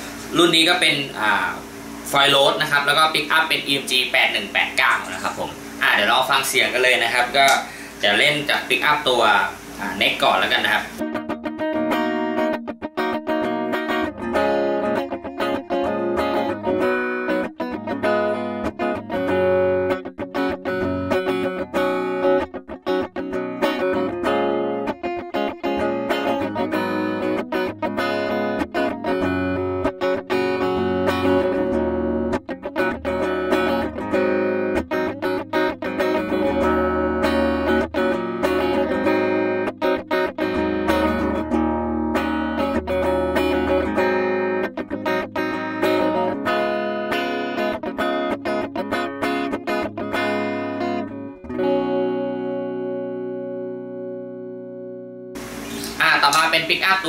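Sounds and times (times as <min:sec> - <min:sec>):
electric guitar chords and notes: 0:00.0 - 0:57.0.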